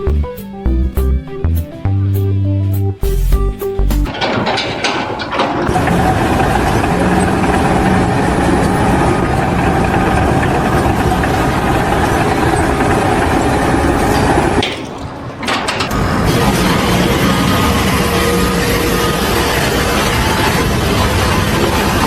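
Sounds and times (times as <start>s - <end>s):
engine running: 4.0s - 22.0s.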